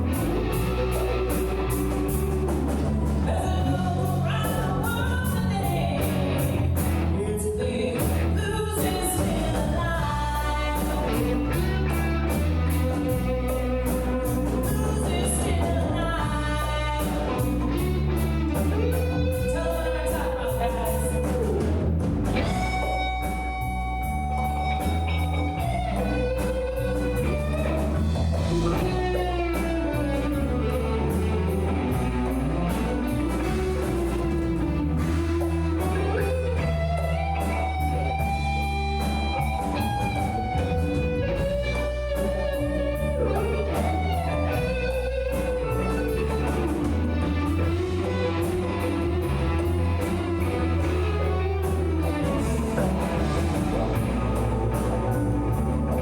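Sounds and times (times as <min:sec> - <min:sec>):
bass guitar notes: 0:00.0 - 0:56.0
drum kit: 0:00.0 - 0:56.0
electric guitar lead: 0:00.0 - 0:56.0.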